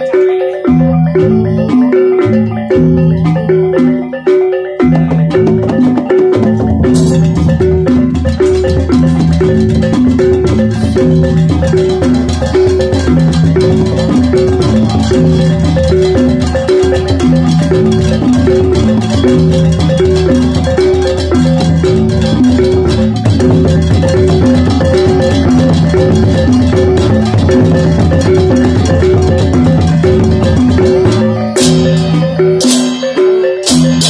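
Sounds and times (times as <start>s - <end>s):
hand drums: 0.0s - 34.0s.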